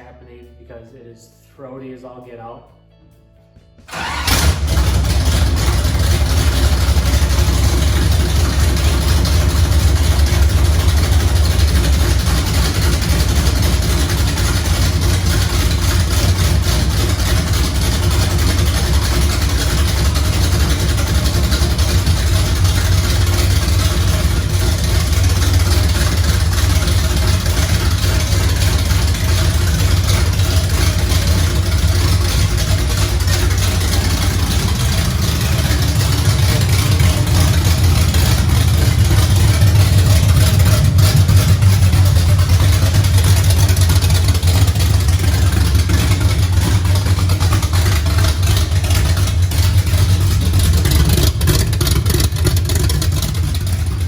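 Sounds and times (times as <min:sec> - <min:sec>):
loud throaty engine idling: 0:03.9 - 0:54.0.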